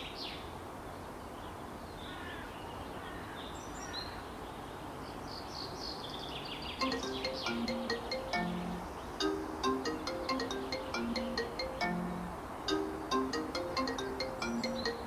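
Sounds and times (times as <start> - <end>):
steady background hiss: 0.0 - 15.0
small birds chirping: 1.2 - 15.0.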